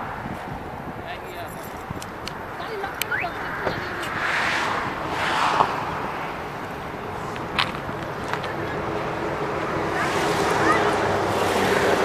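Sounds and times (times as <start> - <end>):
highway traffic rushing: 0.0 - 12.0.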